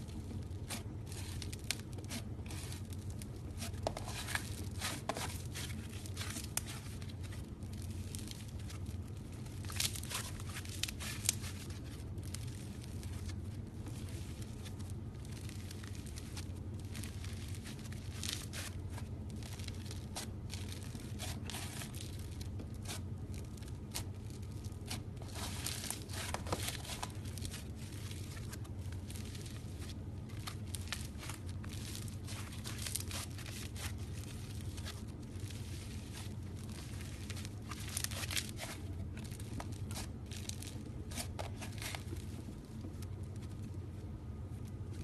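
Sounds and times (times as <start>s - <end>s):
steady low hum: 0.0s - 45.0s
slime squished by hand: 0.1s - 43.7s.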